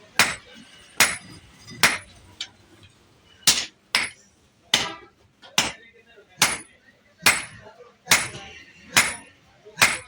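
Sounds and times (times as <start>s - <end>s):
hammer striking steel: 0.0s - 2.2s, 3.4s - 10.0s.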